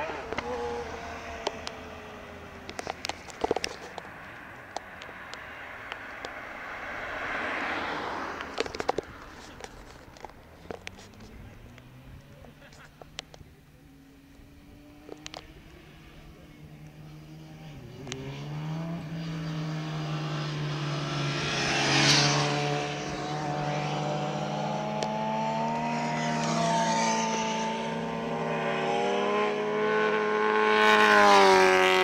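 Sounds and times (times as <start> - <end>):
motorcycles passing at speed: 0.0 - 32.0.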